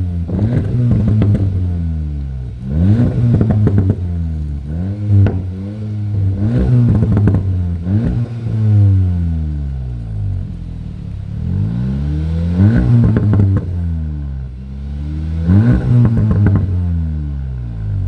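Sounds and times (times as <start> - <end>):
exhaust pops and crackles: 0.0 - 14.4, 15.4 - 17.0
car engine revving: 0.0 - 18.0.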